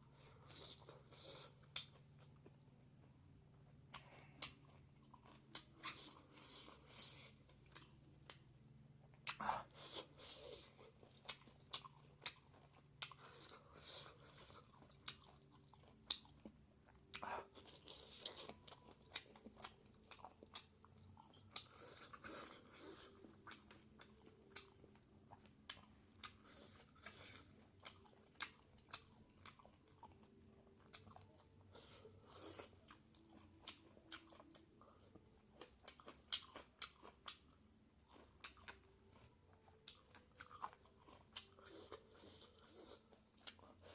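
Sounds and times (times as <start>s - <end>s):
person chewing and crunching: 0.1s - 43.9s.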